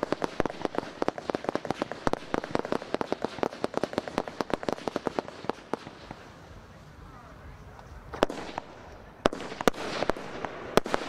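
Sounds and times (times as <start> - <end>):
fireworks popping: 0.0 - 11.0.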